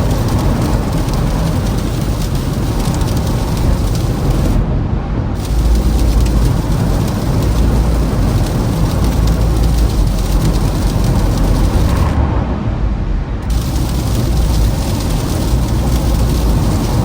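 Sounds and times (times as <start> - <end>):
tyre and road noise on snow: 0.0 - 17.0.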